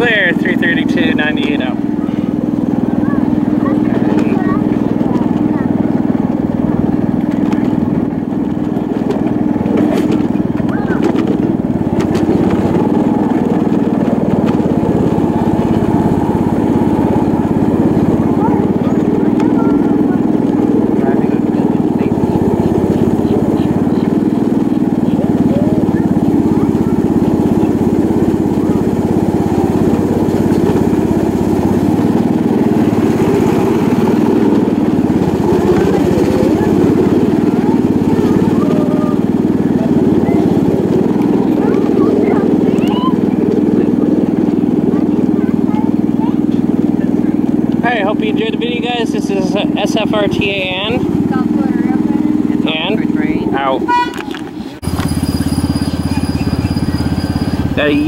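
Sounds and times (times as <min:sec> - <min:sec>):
small engine putter: 0:00.0 - 0:58.0.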